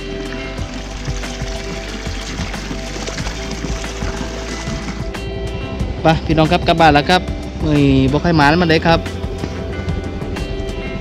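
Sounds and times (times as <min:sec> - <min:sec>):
background music sustained tones: 0:00.0 - 0:11.0.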